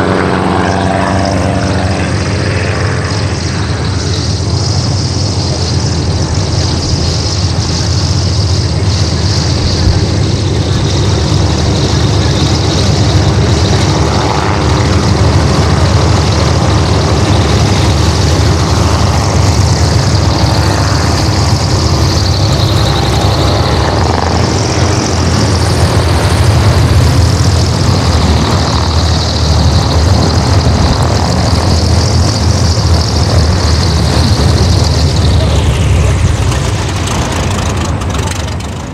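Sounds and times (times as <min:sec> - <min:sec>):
propeller aircraft engine: 0:00.0 - 0:38.9.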